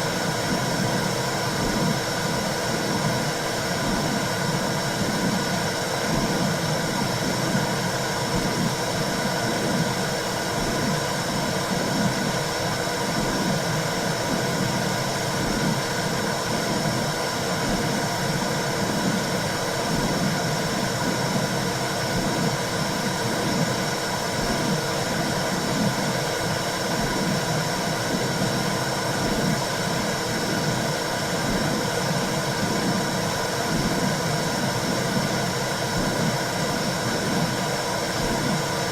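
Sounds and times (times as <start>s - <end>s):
low rhythmic pulsing: 0.0s - 38.9s.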